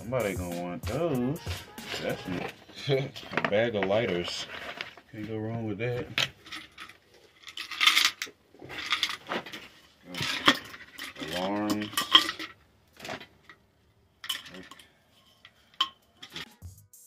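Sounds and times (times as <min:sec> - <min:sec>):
plastic objects clattering: 0:01.8 - 0:16.5.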